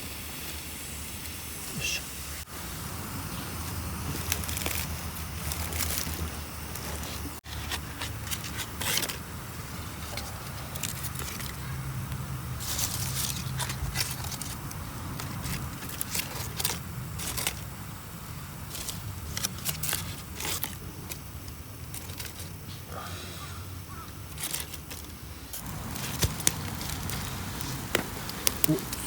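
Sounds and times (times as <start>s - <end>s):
firewood crackling and popping: 0.0s - 22.9s, 23.9s - 29.0s.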